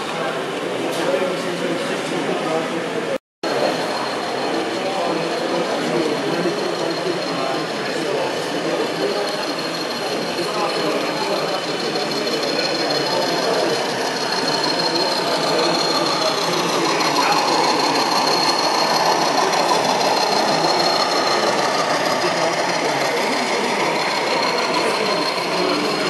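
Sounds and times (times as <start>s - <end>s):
wheels rolling on rails: 3.5s - 26.0s.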